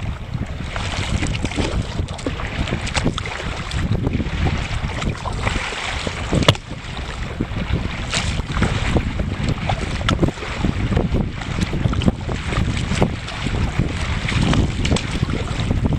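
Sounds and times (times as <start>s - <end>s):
water slapping kayak hull: 0.0s - 15.9s
wind buffeting microphone: 0.0s - 15.9s.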